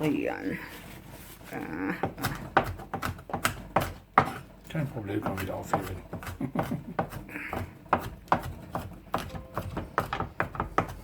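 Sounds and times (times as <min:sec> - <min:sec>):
knife chopping on cutting board: 0:02.0 - 0:11.0.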